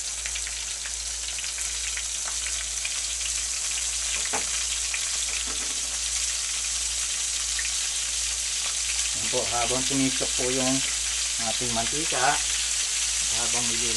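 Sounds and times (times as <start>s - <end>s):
oil crackles and pops: 0.0s - 13.9s
tempura deep-frying in oil: 0.0s - 13.9s.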